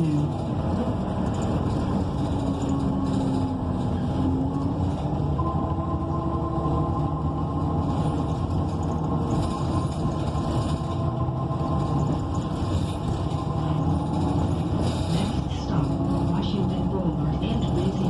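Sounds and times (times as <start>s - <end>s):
bus engine rumble: 0.0s - 18.0s
faint drivetrain whine: 0.0s - 18.0s
road noise: 0.0s - 18.0s.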